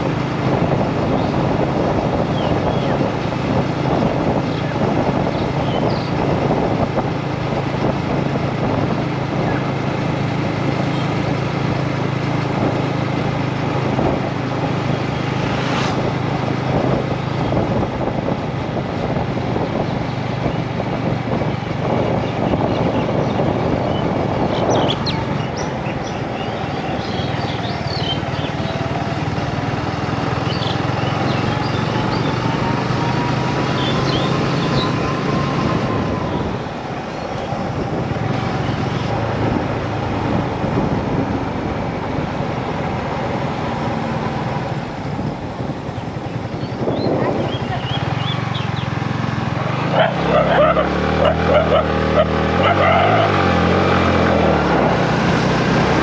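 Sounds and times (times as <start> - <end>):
motorcycle engine cruising: 0.0 - 56.0
road and wind noise: 0.0 - 56.0.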